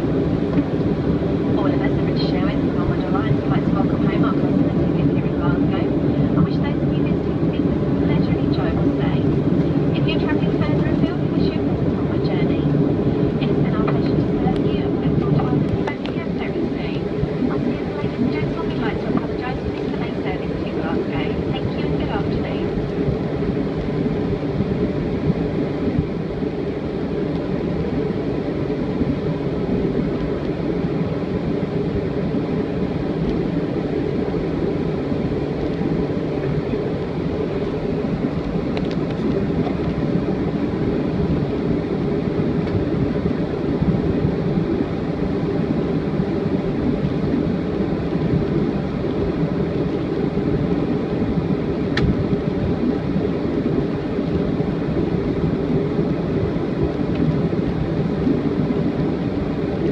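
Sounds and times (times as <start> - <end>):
airplane cabin engine noise: 0.0 - 59.9.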